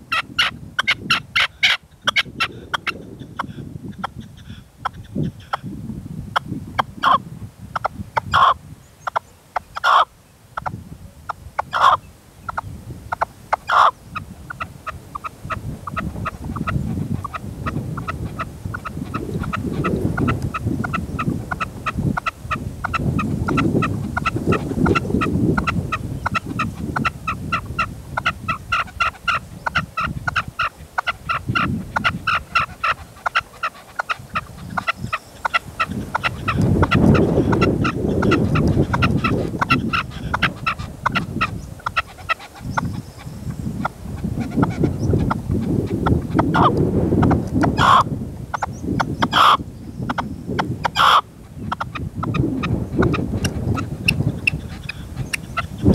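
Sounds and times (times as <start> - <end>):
wind rumble on microphone: 0.0 - 55.9
partridge calling: 0.1 - 5.7, 6.8 - 7.2, 7.8 - 10.8, 11.6 - 55.9.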